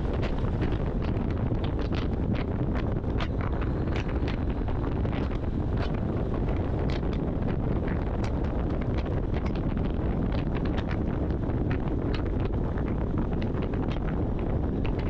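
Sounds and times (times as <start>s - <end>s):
sharp clicks and rattles: 0.0s - 15.0s
truck engine and road rumble: 0.0s - 15.0s
wind noise on microphone: 0.0s - 15.0s.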